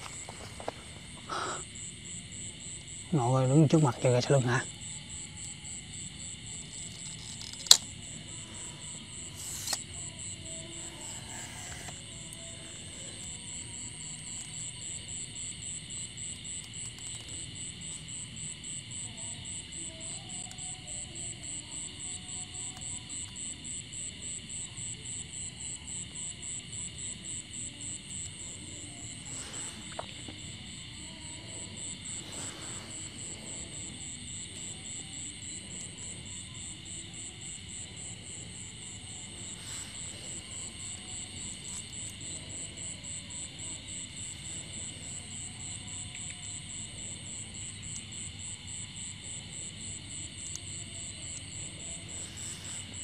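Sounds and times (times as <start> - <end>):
cricket pulsing: 0.0 - 53.0
high insect drone: 0.0 - 53.0
insects chirping: 0.0 - 53.0.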